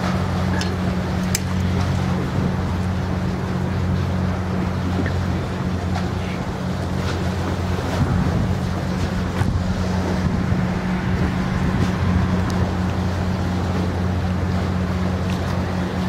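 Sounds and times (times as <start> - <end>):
constant rushing noise: 0.0 - 16.0
low machinery hum: 0.0 - 16.0.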